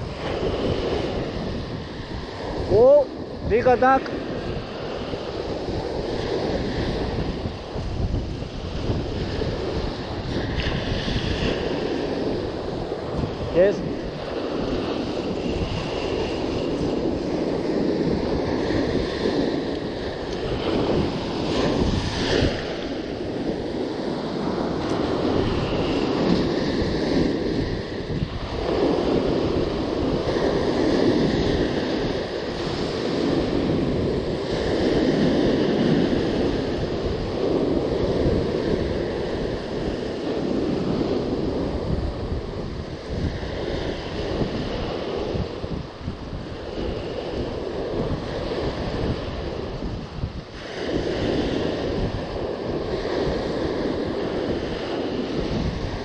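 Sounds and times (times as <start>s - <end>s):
surf breaking on a beach: 0.0s - 56.0s
wind buffeting microphone: 0.0s - 56.0s.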